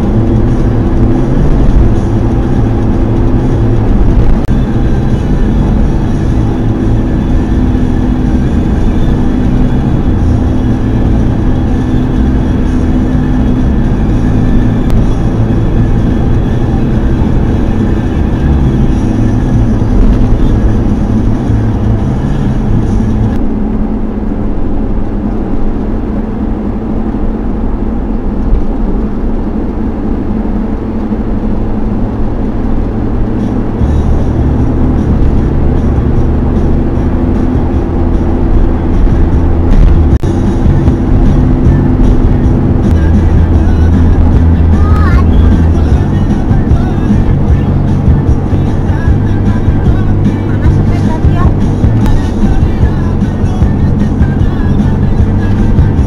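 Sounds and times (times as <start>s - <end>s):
car road and engine rumble: 0.0s - 56.0s
high road hiss: 0.0s - 56.0s.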